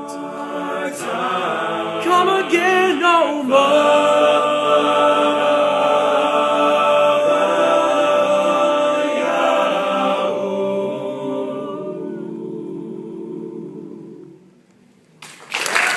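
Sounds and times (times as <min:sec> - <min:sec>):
men singing a cappella chord: 0:00.0 - 0:14.4.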